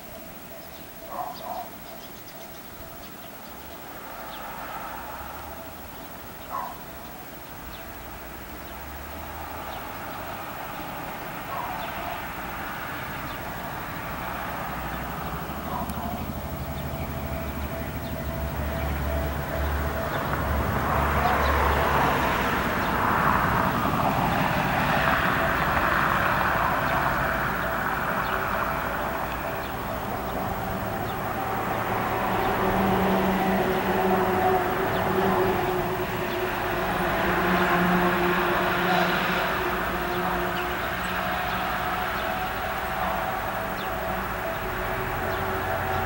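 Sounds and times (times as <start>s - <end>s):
electric train approaching: 0.0s - 46.0s.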